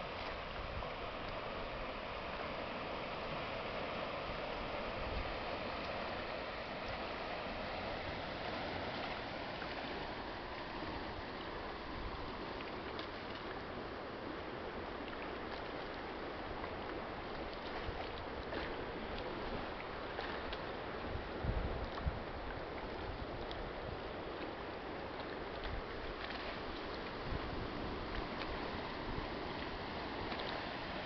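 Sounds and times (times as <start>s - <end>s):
water rushing through sluice gates: 0.0s - 31.0s.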